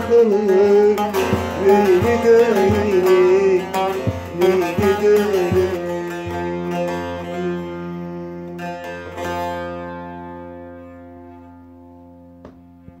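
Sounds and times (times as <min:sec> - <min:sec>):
saz strummed chord ringing: 0:00.0 - 0:13.0.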